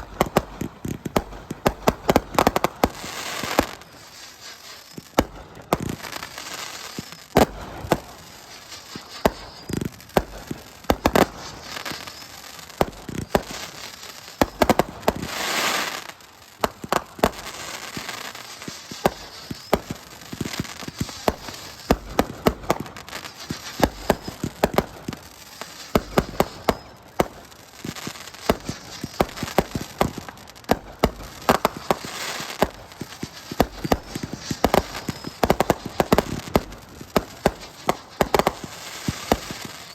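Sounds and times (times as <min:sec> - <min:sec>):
fireworks bangs: 0:00.0 - 0:39.9
fireworks crackling: 0:00.0 - 0:39.9
fireworks hissing burst: 0:00.0 - 0:39.9.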